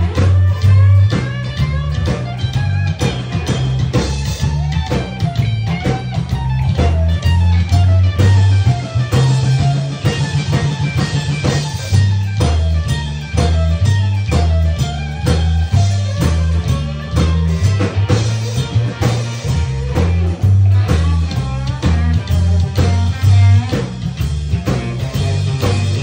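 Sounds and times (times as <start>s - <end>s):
double bass walking line: 0.0s - 26.0s
electric guitar: 0.0s - 26.0s
steady drum beat: 0.0s - 26.0s.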